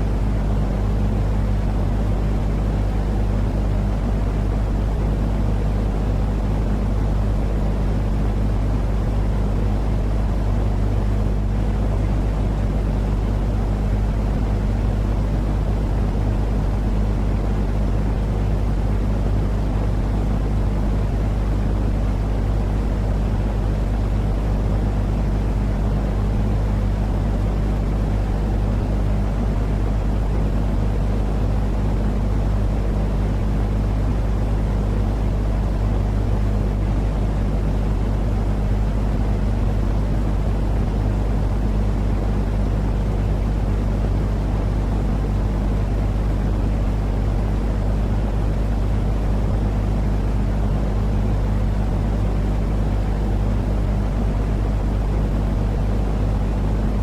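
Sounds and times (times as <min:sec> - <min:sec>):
low rumbling noise with hum tones: 0:00.0 - 0:57.0.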